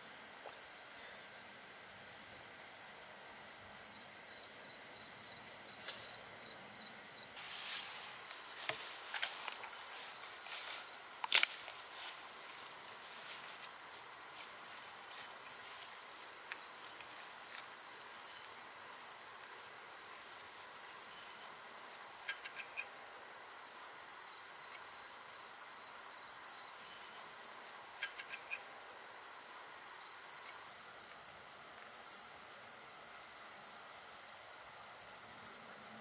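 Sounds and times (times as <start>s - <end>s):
crickets and insects trilling: 0.0s - 36.0s.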